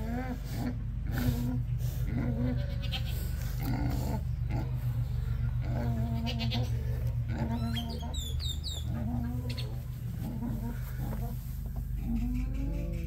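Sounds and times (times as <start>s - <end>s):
pigs squealing: 0.0s - 13.0s
steady low hum: 0.0s - 13.0s.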